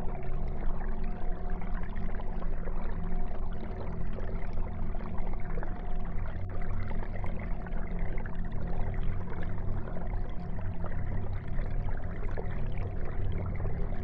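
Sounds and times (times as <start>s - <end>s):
low constant hum: 0.0s - 14.0s
water pouring and trickling: 0.0s - 14.0s.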